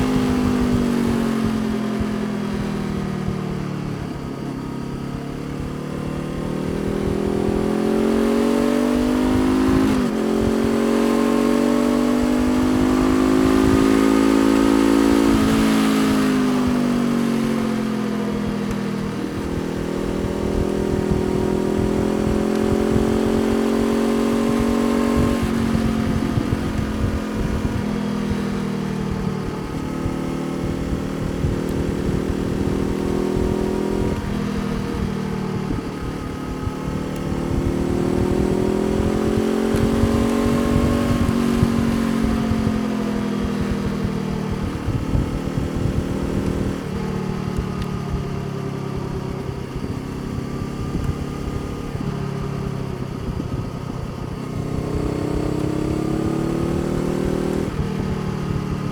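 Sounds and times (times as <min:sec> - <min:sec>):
motorcycle engine shifting gears: 0:00.0 - 0:58.9.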